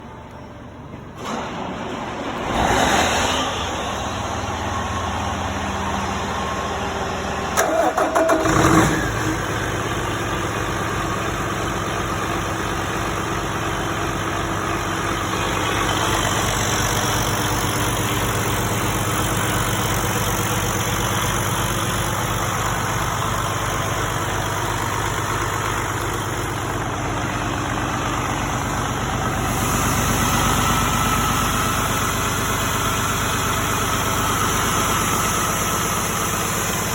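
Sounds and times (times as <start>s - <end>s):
diesel engine cranking: 0.0s - 36.9s
diesel engine idling: 0.0s - 36.9s.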